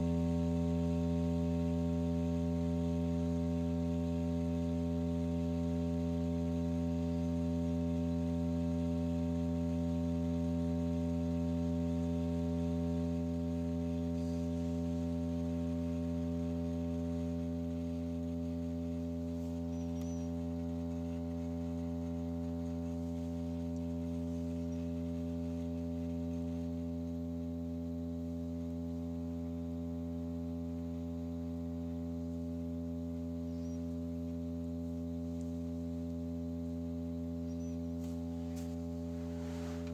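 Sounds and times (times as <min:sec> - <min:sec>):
low sustained hum tone: 0:00.0 - 0:39.9.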